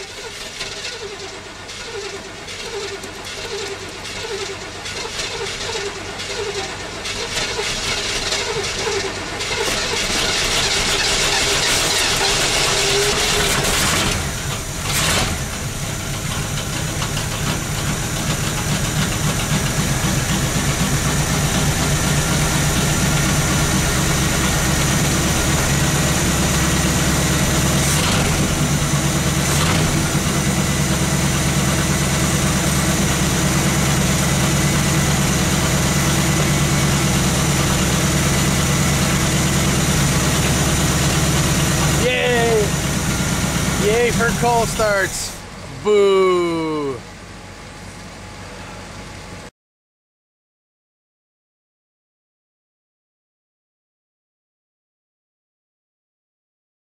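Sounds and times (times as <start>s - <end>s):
car engine starting and idling: 0.0s - 49.5s.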